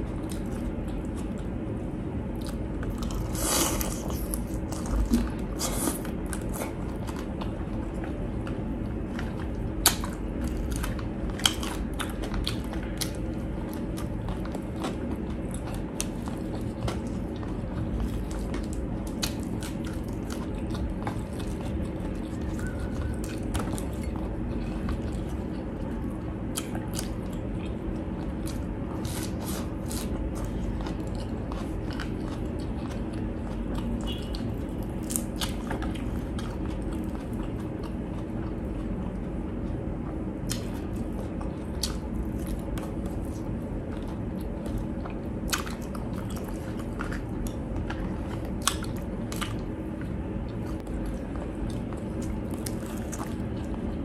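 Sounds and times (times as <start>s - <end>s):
crunchy chewing: 0.0s - 54.0s
faint steady hum: 0.0s - 54.0s.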